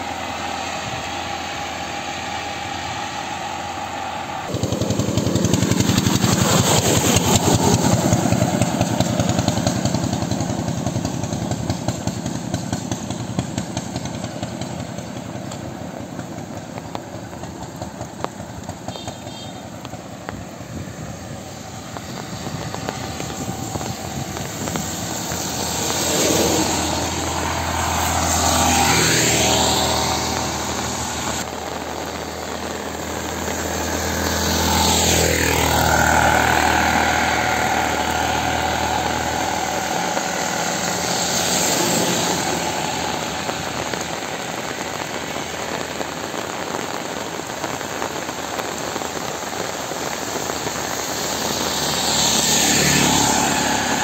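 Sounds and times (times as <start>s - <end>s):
heavy rain: 0.0s - 54.0s
motor vehicles passing: 0.0s - 54.0s.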